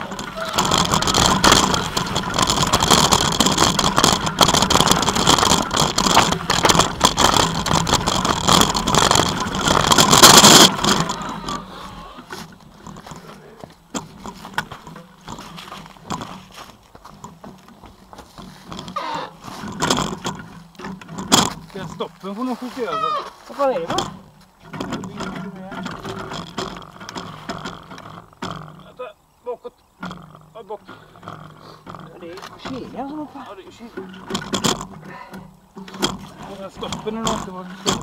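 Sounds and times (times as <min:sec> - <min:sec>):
faint clicks and rustling: 0:00.0 - 0:38.0
mountain bike rattling over trail: 0:00.0 - 0:38.0.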